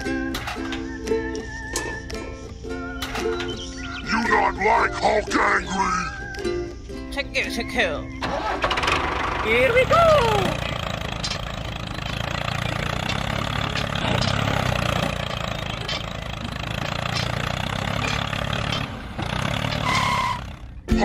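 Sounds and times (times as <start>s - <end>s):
tractor engine rumbling: 0.0s - 21.0s.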